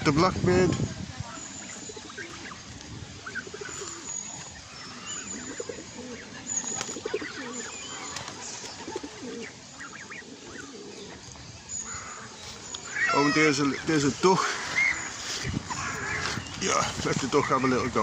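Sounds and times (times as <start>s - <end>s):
high bird chirps: 1.2s - 16.6s
pigeons cooing: 1.4s - 18.0s.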